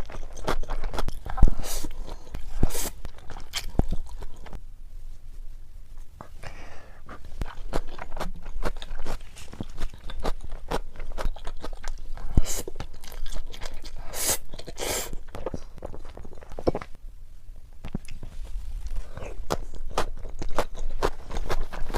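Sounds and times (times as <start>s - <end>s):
crunchy eating and chewing: 0.0s - 4.6s, 6.5s - 17.0s, 17.8s - 21.9s.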